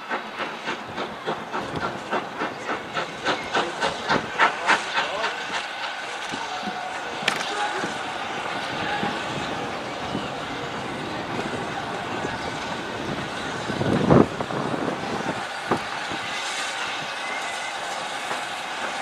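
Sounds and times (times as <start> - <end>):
steam train rumbling: 0.0 - 19.0.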